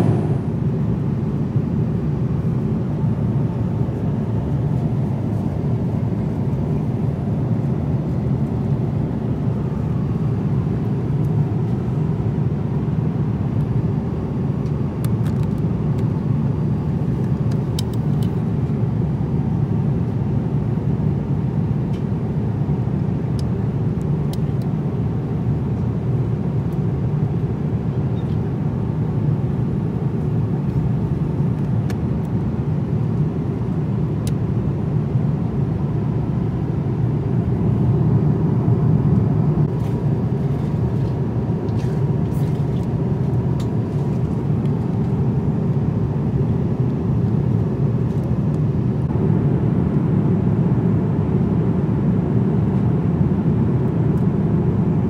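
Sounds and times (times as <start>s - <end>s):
airliner cabin airflow and engine: 0.0s - 55.0s.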